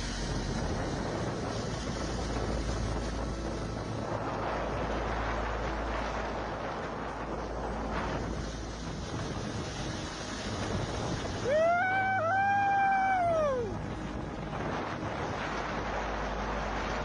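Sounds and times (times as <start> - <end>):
river ice and water: 0.0 - 17.0
wind rushing: 0.0 - 17.0.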